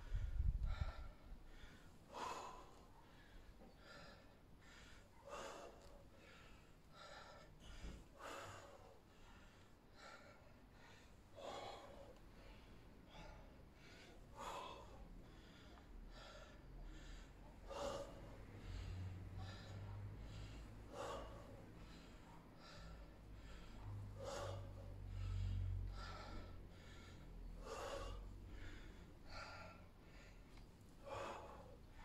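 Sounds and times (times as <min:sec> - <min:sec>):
man breathing hard: 0:00.0 - 0:32.0.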